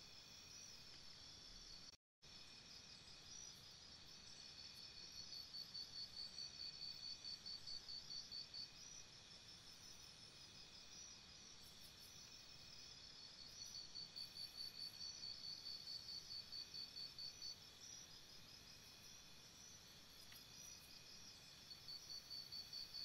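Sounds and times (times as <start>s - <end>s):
low ambient hiss: 0.0s - 23.0s
insects trilling: 2.4s - 23.0s.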